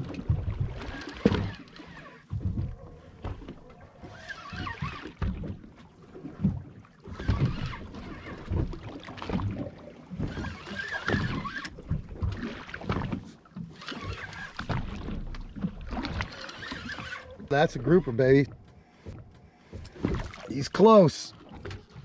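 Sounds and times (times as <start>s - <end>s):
water slapping against boat hull: 0.0s - 22.0s.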